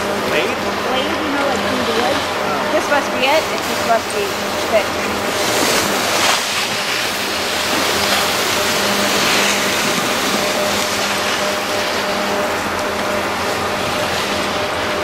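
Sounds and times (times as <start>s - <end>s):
skis sliding over snow: 0.2s - 15.0s.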